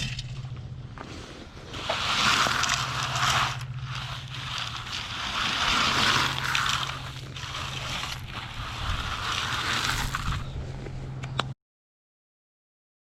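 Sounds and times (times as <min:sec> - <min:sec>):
gravel crunching and scraping: 0:00.0 - 0:11.5
steady low hum: 0:00.0 - 0:11.5.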